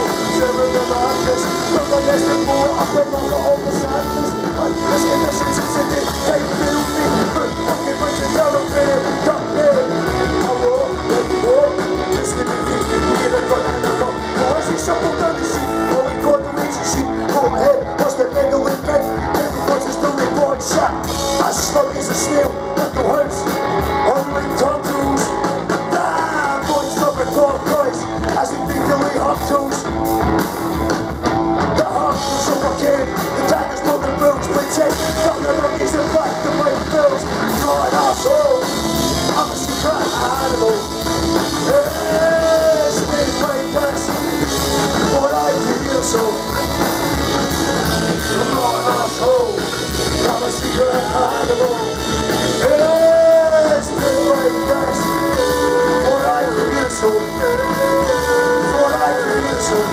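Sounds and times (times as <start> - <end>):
man singing into microphone: 0.0 - 29.9, 31.7 - 47.0, 47.8 - 59.9
drums: 0.0 - 59.9
electric guitar: 0.0 - 59.9.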